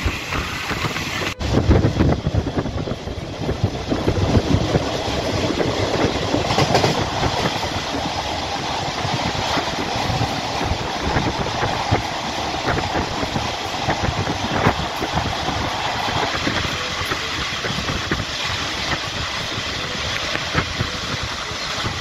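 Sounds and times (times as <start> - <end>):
train carriage rumbling: 0.0 - 22.0
wheels clacking over rails: 0.0 - 22.0.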